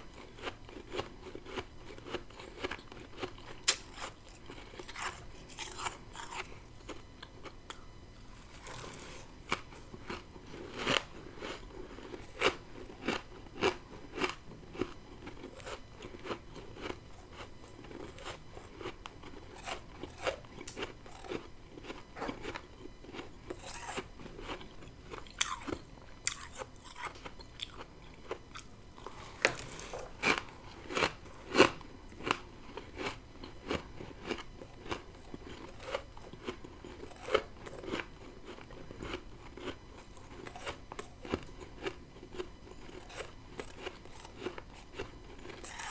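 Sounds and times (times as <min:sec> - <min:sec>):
crunchy chewing of frost: 0:00.0 - 0:45.9.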